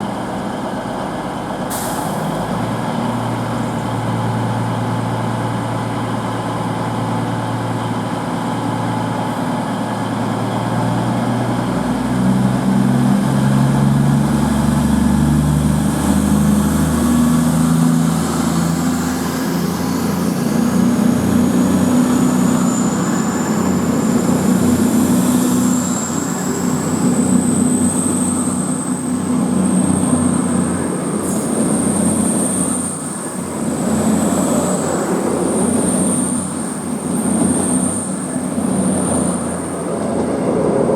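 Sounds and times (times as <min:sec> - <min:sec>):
train diesel engines: 0:00.0 - 0:40.9.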